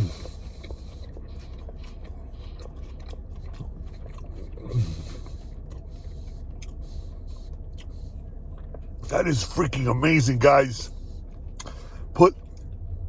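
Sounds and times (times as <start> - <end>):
man chewing food: 0.0 - 13.0
steady low hum: 0.0 - 13.0.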